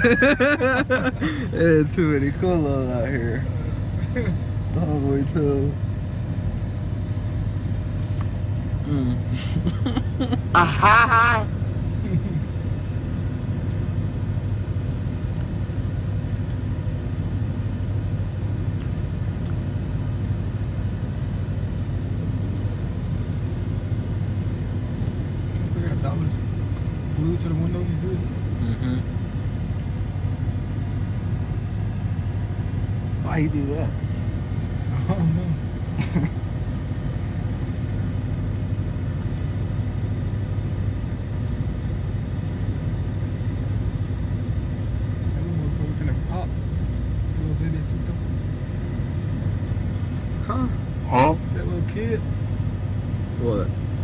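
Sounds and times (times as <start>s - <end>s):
low vehicle engine rumble: 0.0s - 54.0s.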